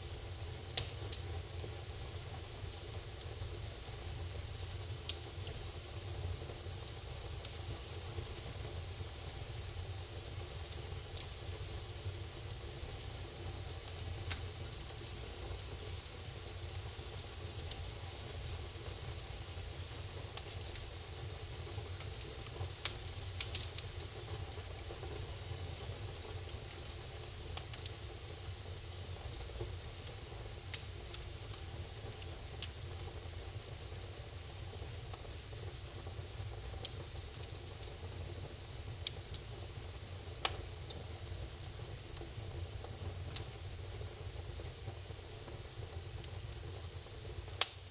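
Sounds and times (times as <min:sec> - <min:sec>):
fire crackles and pops: 0:00.0 - 0:47.9
wood fire hissing and rumbling: 0:00.0 - 0:47.9.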